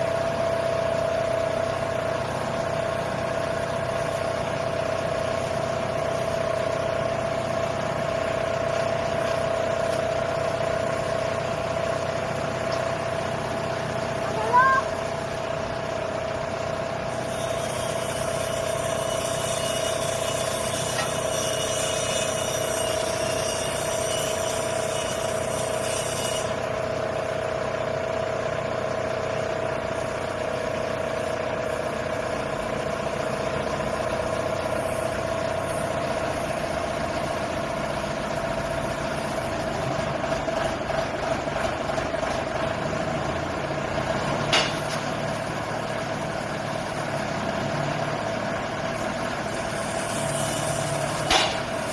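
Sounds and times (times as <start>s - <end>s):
drilling rig engine whining: 0.0s - 51.9s.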